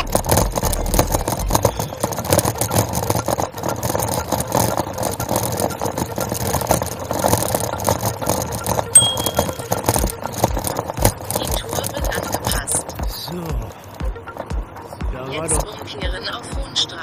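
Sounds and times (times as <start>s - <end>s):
bicycle rattling over cobblestones: 0.0s - 17.0s.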